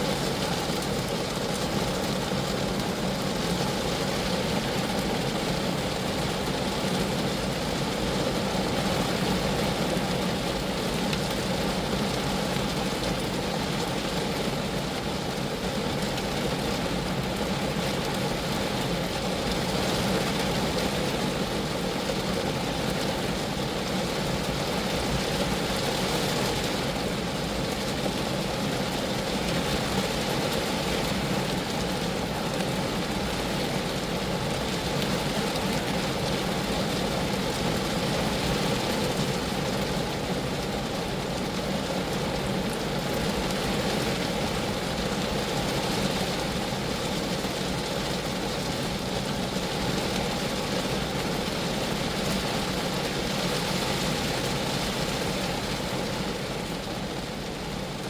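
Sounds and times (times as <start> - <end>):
rain on car metal and glass: 0.0 - 58.0.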